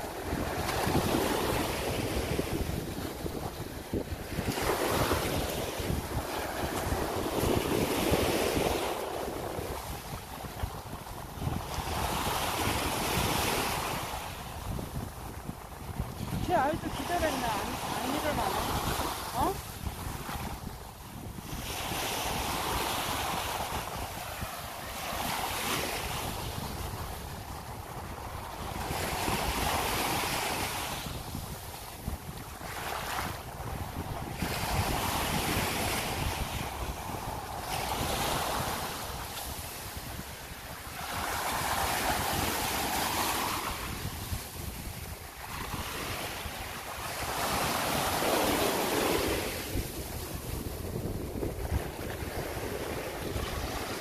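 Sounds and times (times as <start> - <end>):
waves washing on a sandy shore: 0.0 - 54.0
wind buffeting the microphone: 0.0 - 54.0.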